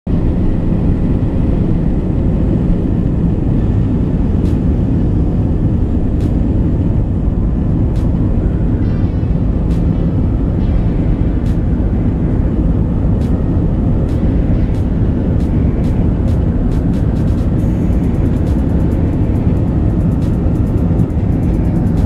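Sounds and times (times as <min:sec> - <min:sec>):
jet engines rumbling: 0:00.1 - 0:22.0.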